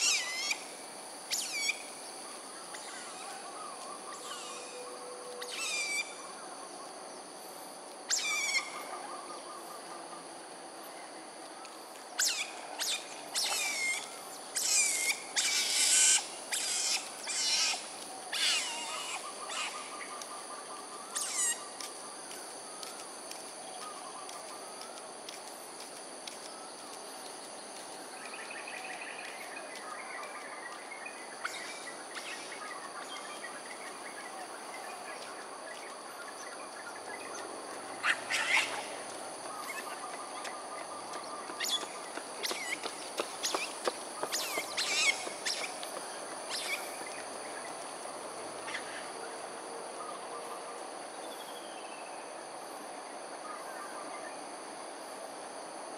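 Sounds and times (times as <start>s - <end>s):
high insect drone: 0.0s - 55.9s.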